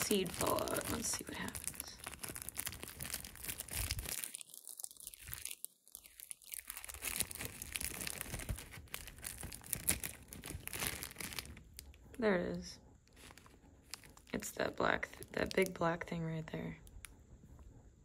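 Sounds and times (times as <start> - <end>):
seed capsule crackling: 0.0 - 12.0, 13.2 - 16.1.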